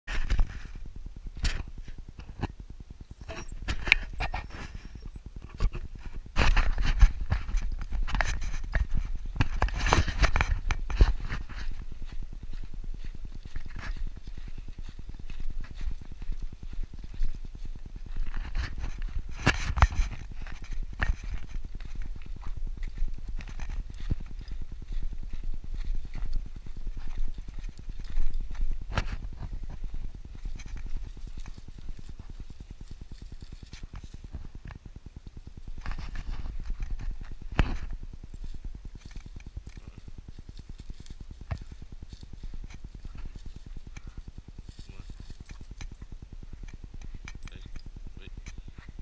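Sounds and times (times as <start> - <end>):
footsteps on dirt trail: 0.1 - 49.0.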